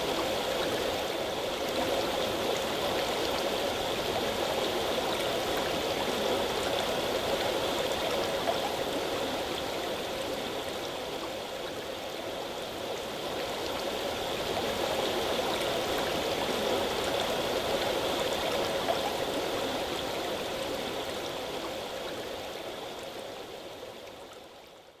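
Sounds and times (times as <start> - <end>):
rushing river water: 0.0 - 25.0.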